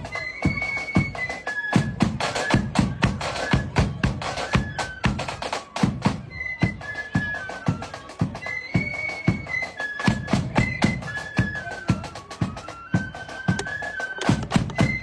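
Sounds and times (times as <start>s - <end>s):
drum beats: 0.0s - 15.0s
flutes playing melody: 0.0s - 15.0s.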